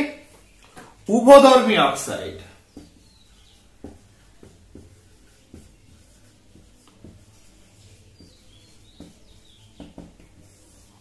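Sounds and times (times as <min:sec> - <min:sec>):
marker pen writing on whiteboard: 0:00.4 - 0:11.0.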